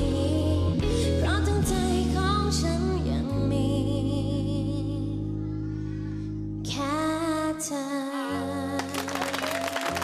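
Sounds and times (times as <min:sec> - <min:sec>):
woman singing into microphone: 0:00.0 - 0:05.3, 0:06.6 - 0:09.4.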